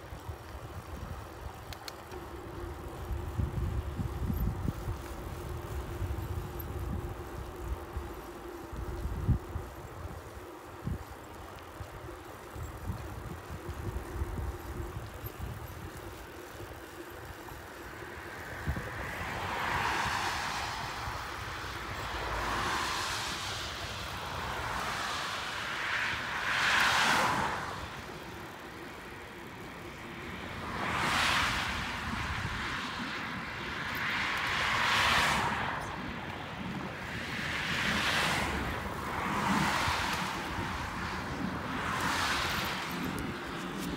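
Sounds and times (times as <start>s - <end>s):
cars passing: 0.0s - 43.9s
wind and tyre rumble from bike: 0.0s - 43.9s.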